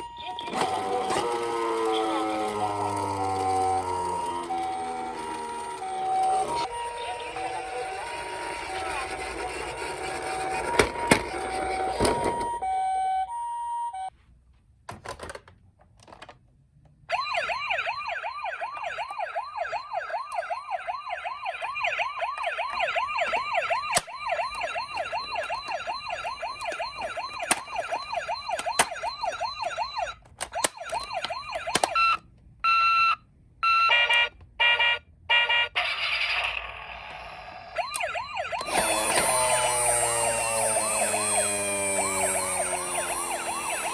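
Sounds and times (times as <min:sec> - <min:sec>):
toy electronic sirens: 0:00.0 - 0:14.1, 0:17.1 - 0:43.9.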